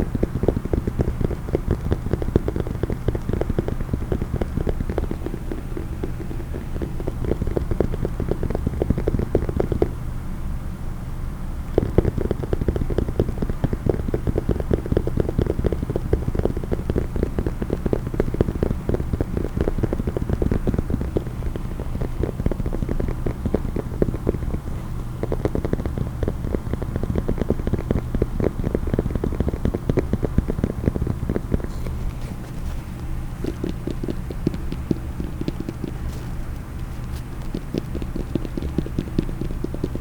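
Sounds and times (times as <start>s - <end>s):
fast tapping on a case: 0.0s - 10.0s, 11.7s - 40.0s.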